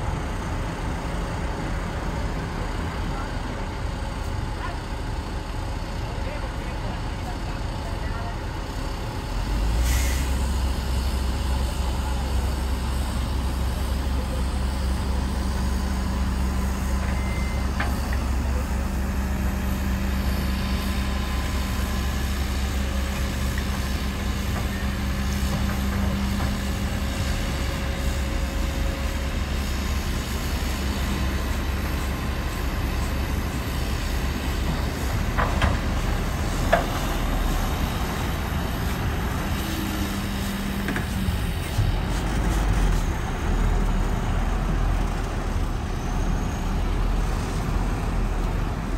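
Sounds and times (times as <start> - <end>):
diesel engine drone: 0.0 - 48.9.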